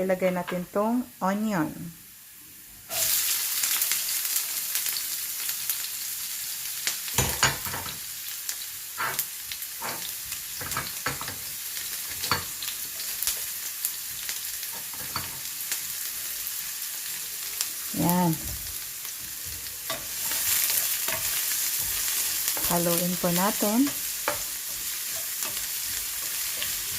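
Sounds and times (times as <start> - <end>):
onion sizzling in hot oil: 0.0 - 26.9.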